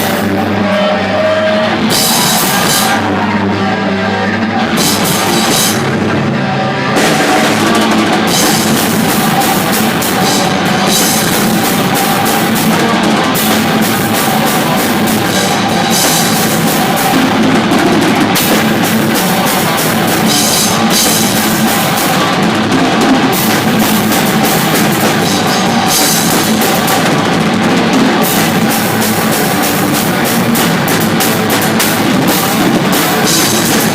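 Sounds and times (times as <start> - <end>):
heavy rock band playing: 0.0 - 33.9
bass drum: 1.6 - 3.4, 4.6 - 6.2, 7.0 - 33.9.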